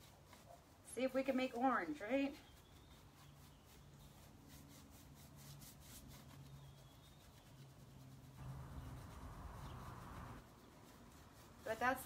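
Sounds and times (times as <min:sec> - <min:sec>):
paintbrush scrubbing a surface: 0:00.0 - 0:12.0.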